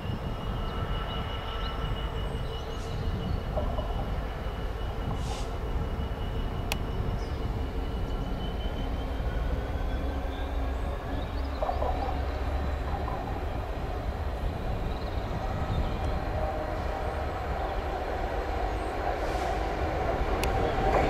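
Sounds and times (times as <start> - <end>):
diesel locomotive engine running: 0.0 - 21.0.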